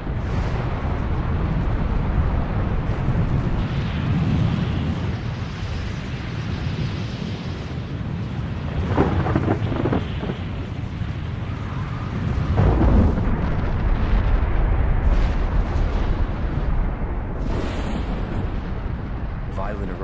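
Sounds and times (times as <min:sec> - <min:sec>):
deep rumbling of volcanic eruption: 0:00.0 - 0:20.0.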